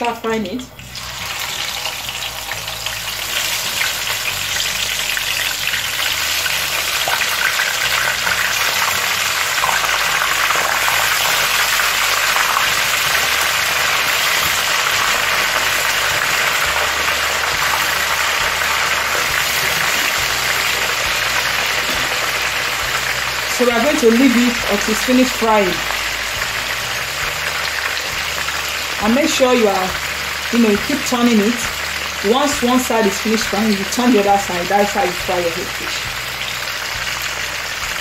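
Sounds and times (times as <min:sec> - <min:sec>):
fish and onion sizzling in oil: 0:00.0 - 0:38.0.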